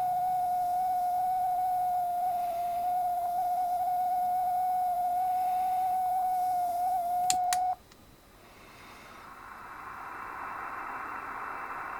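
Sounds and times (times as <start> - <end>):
radio receiver whistle tone: 0.0 - 7.8, 9.3 - 11.9
receiver hiss: 0.0 - 11.9.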